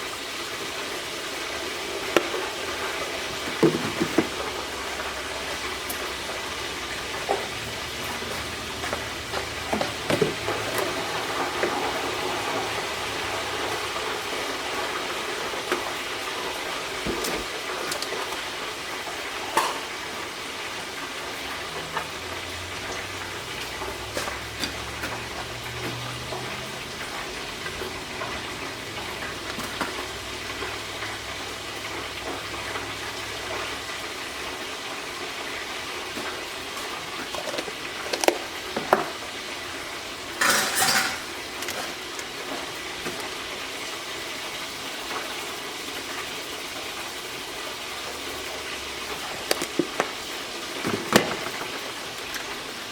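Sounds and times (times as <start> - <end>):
chicken sizzling in hot oil: 0.0 - 52.9
utensils clinking on pans: 1.5 - 44.2.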